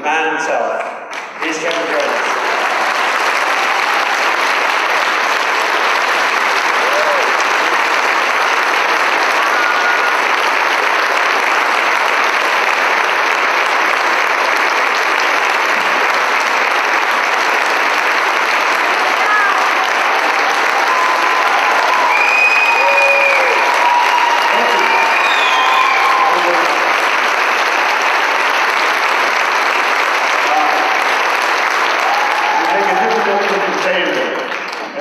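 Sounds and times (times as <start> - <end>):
large audience applauding: 0.6 - 35.0.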